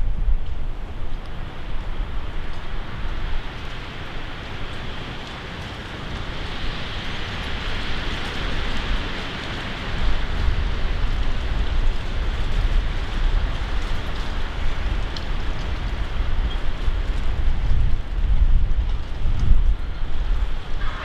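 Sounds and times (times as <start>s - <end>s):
strong wind rushing through trees: 0.0s - 21.0s
wind buffeting microphone: 0.0s - 21.0s.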